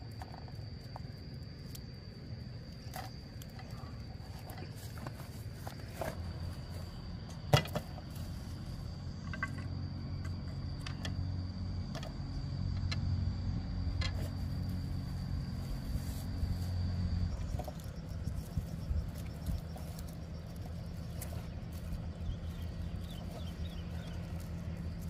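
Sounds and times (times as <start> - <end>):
motor humming: 2.7 - 25.0.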